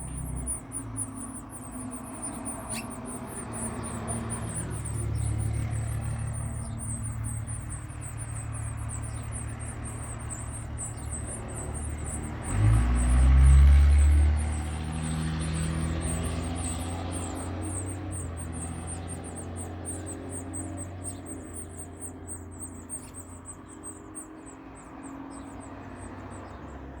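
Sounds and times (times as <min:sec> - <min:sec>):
baby birds peeping: 0:00.0 - 0:27.0.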